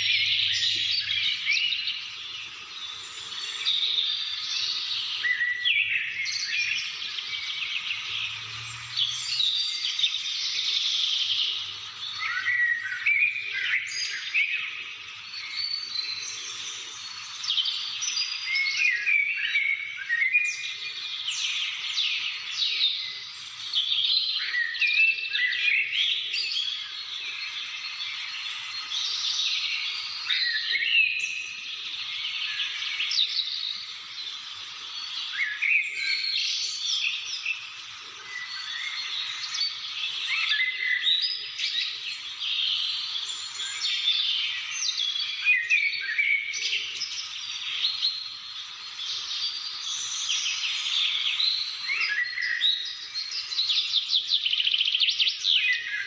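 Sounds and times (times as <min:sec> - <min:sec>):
birds chirping and whistling: 0:00.0 - 0:56.0.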